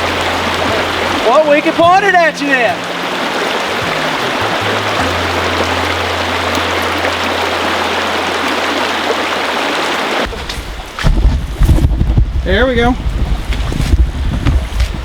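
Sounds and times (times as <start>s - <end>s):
water rushing over rocks: 0.0s - 12.5s.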